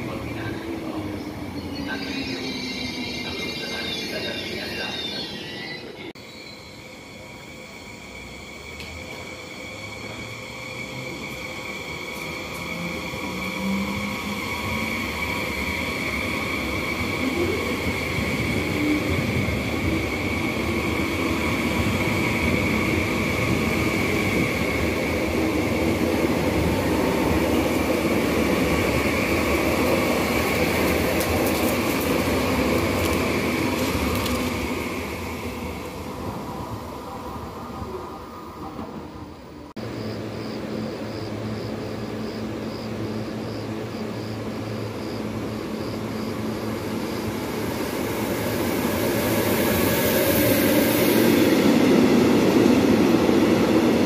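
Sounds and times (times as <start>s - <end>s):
high electric train whine: 0.0s - 54.0s
train wheels rumbling on rails: 6.8s - 54.0s.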